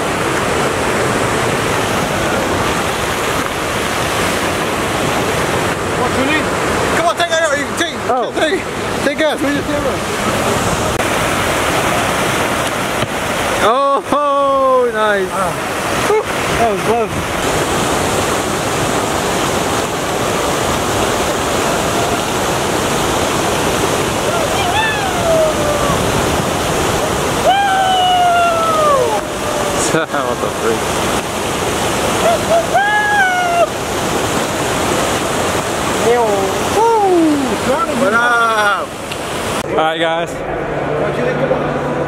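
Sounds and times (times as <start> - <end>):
fountain jets splashing: 0.0 - 42.0.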